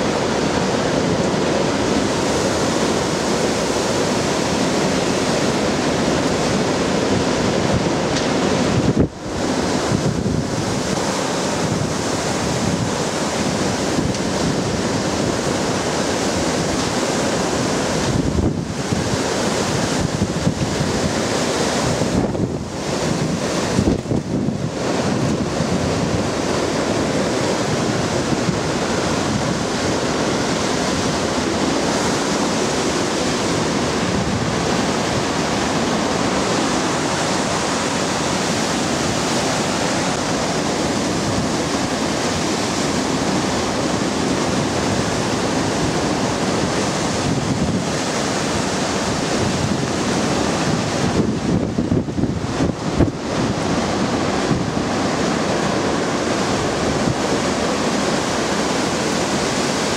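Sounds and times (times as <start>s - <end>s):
strong wind through trees: 0.0s - 59.9s
wind buffeting microphone: 0.0s - 59.9s.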